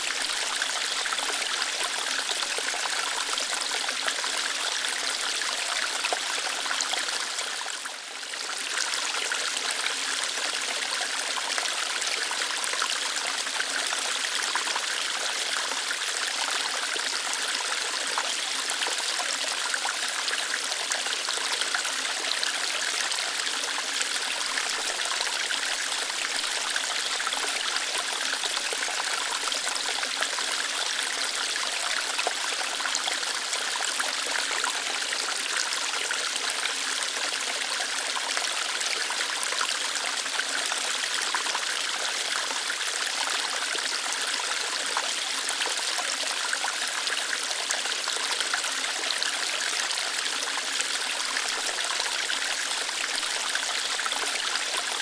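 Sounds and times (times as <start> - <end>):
water flowing over rocks: 0.0 - 55.0.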